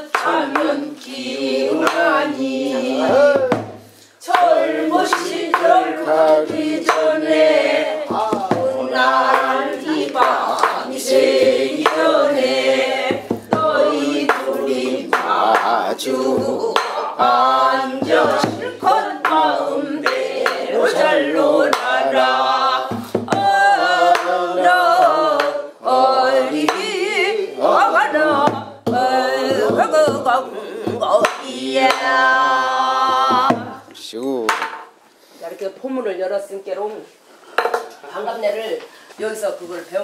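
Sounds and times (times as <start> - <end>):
person singing folk song: 0.0 - 34.6.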